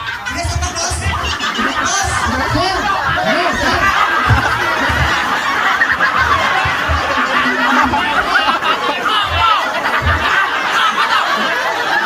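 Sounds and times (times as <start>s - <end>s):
low drum beats: 0.0s - 10.8s
crowd laughing and chattering: 0.0s - 12.0s.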